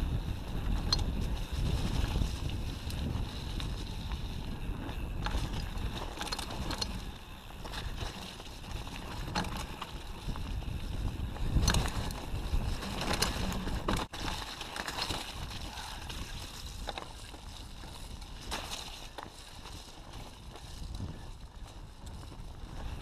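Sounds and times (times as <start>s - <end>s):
bike rattling over bumps: 0.0s - 23.0s
rumbling tyre and wind noise: 0.0s - 23.0s.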